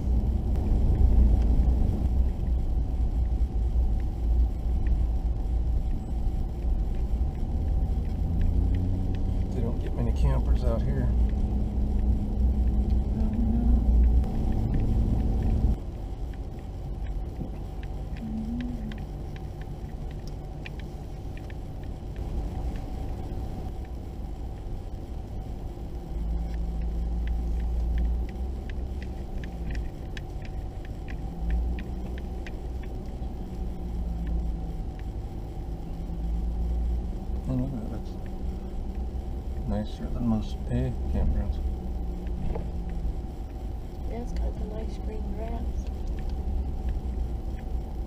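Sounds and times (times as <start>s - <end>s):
faint hum: 0.0s - 48.0s
vehicle driving on gravel: 0.0s - 48.0s.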